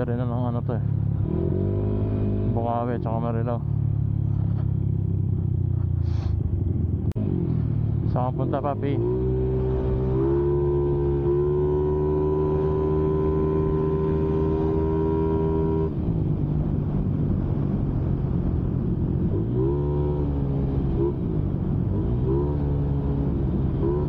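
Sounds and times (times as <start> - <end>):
motorcycle engine running: 0.3 - 24.0.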